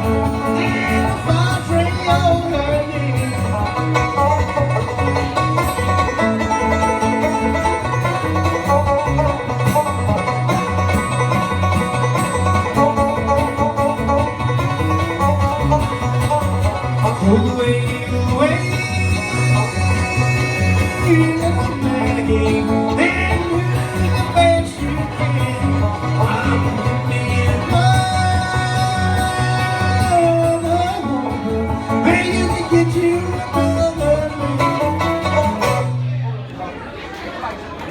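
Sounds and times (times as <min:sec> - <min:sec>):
sliding lead line: 0:00.0 - 0:35.9
guitar: 0:00.0 - 0:36.8
banjo: 0:00.0 - 0:37.9.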